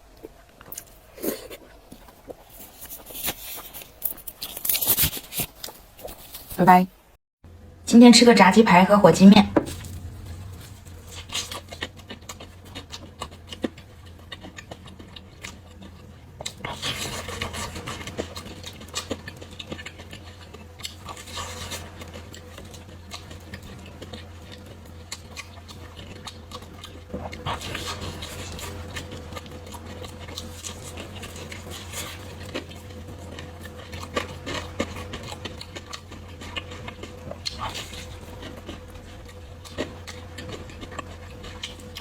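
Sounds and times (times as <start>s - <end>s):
crunchy chewing and biting: 0.2s - 6.6s, 9.5s - 42.0s.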